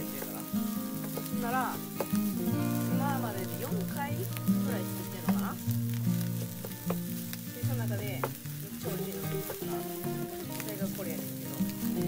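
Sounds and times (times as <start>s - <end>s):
rice sizzling in frying pan: 0.0s - 12.0s.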